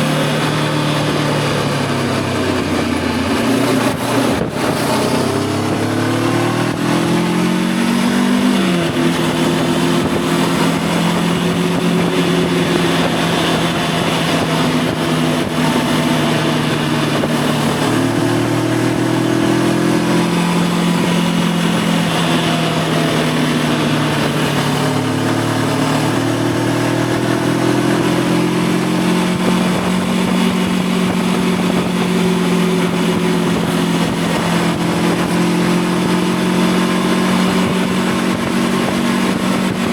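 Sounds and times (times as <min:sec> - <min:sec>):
motorcycle engine revving: 0:00.0 - 0:39.9
wind and road rush: 0:00.0 - 0:39.9.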